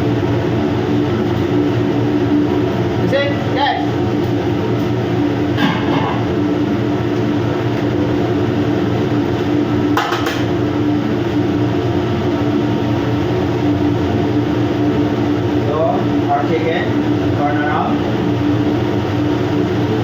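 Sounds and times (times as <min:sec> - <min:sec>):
machinery drone: 0:00.0 - 0:20.0.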